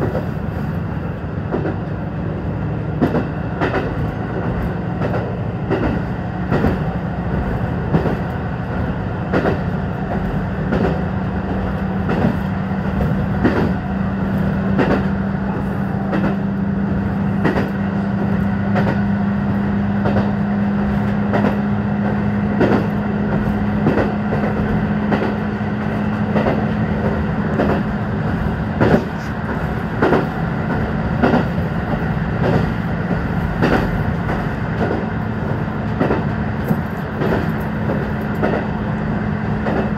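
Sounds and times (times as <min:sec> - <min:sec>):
wheels clacking over rail joints: 0:03.0 - 0:08.4, 0:09.2 - 0:16.6, 0:17.3 - 0:38.8.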